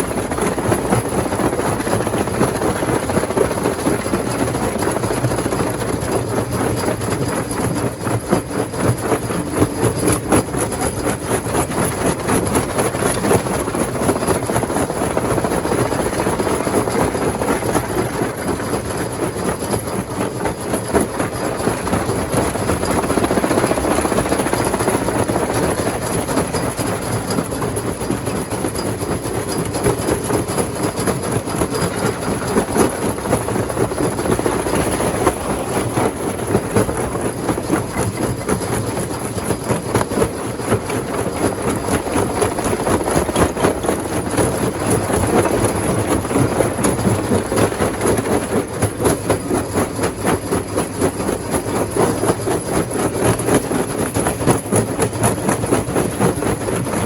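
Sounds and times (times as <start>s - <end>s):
rock crusher rattling: 0.0s - 57.0s.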